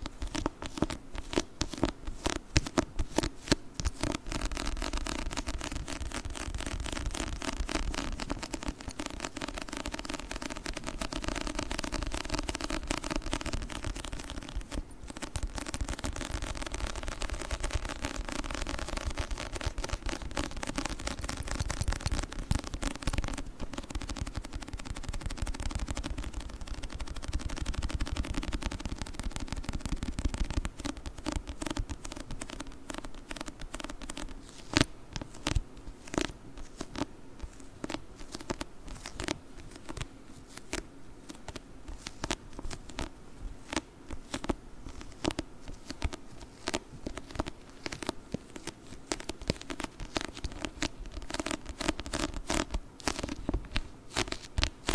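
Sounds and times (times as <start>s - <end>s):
fingers tapping sticky surface: 0.0s - 54.9s.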